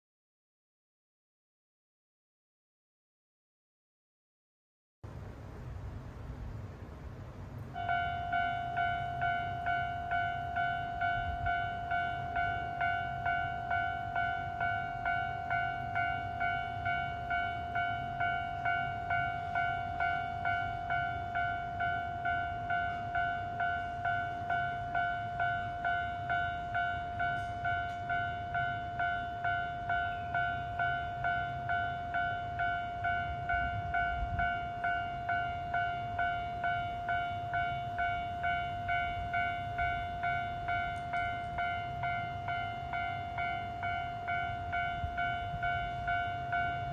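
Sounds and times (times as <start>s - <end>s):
level-crossing alarm ringing: 7.8s - 46.9s.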